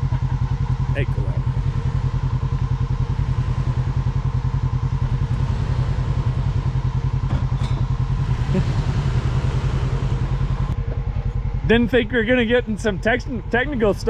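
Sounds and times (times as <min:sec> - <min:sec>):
truck engine running near idle: 0:00.0 - 0:14.0.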